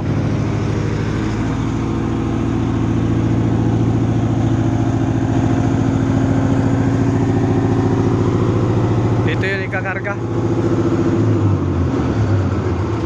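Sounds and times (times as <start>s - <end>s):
heavy diesel engine humming: 0.0s - 13.0s.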